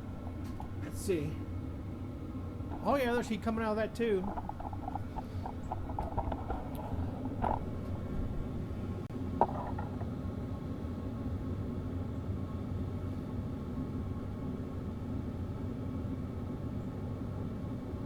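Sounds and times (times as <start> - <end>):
air heater blower humming: 0.0 - 18.0.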